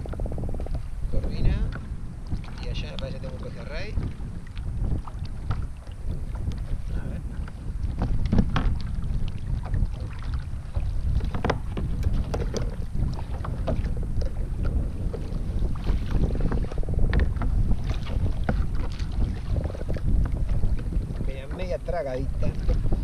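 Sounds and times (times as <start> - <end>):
waves lapping against kayak hull: 0.0 - 23.0
wind buffeting microphone: 0.0 - 23.0.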